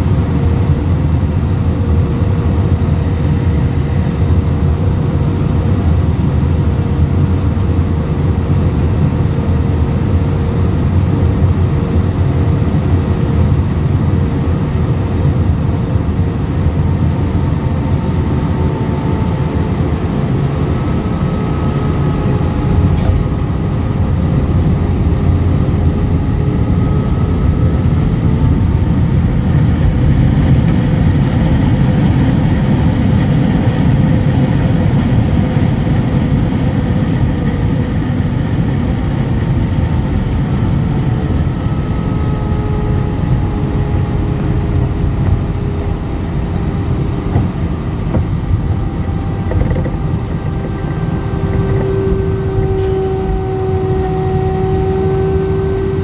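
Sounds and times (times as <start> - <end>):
airliner cabin engine rumble: 0.0 - 56.0
faint jet engine whine: 0.0 - 56.0.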